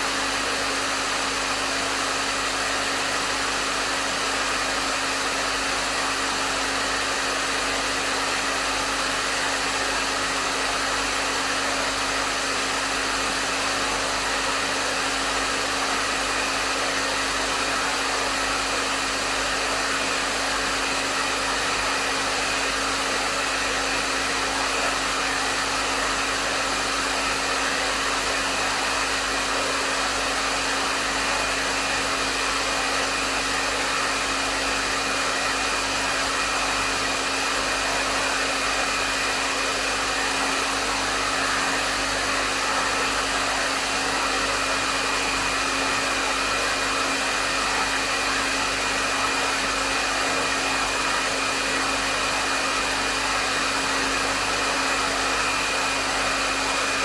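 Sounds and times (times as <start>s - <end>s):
hair dryer air rushing: 0.0s - 57.0s
hair dryer motor hum: 0.0s - 57.0s.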